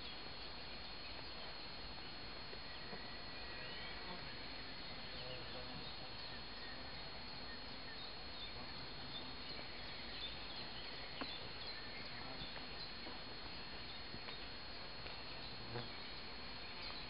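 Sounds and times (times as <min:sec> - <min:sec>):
faint bird chirps: 0:00.0 - 0:17.0
insects: 0:00.0 - 0:17.0
steady background hiss: 0:00.0 - 0:17.0.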